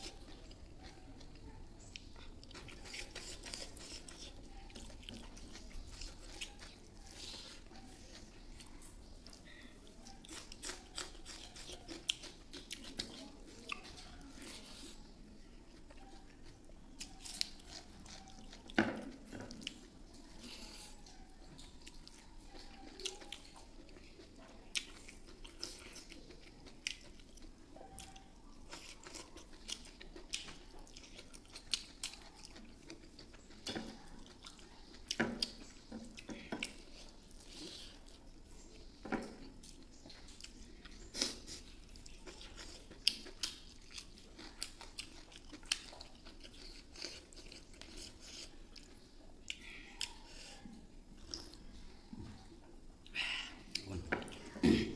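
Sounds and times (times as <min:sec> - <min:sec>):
man chewing food: 0:00.0 - 0:54.9.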